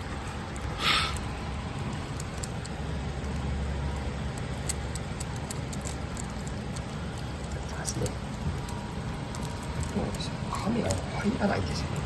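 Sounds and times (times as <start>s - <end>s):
cat eating from metal bowl: 0.0s - 12.0s.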